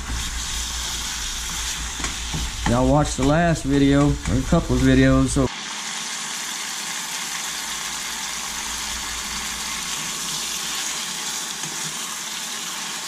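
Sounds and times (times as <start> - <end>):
meat sizzling in a saucepan: 0.0 - 13.0.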